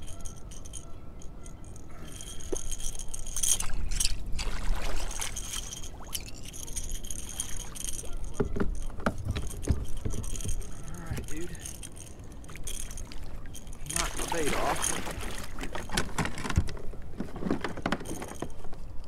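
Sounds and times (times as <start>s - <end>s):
gear clicking and rattling: 0.0s - 4.5s, 5.1s - 18.8s.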